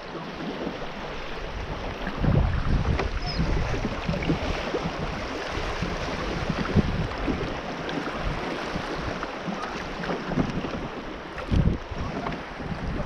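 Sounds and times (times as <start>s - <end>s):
fast-flowing river water rushing: 0.0s - 13.0s
wind rumbling on microphone: 0.0s - 13.0s.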